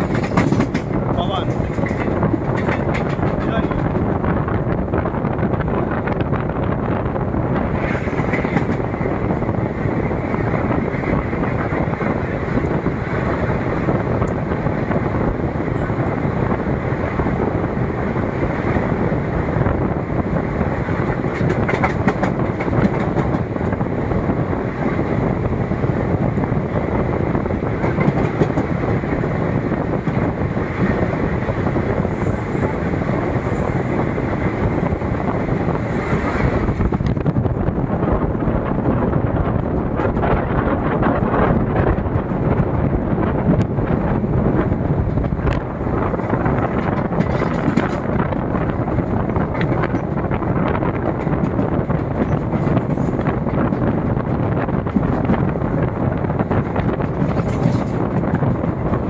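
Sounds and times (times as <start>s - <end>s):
train wheels rumbling and clattering: 0.0s - 59.0s.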